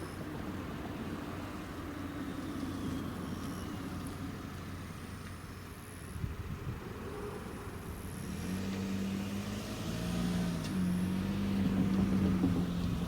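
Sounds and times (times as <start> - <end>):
train rumbling slowly on rails: 0.0 - 8.1, 10.5 - 13.0.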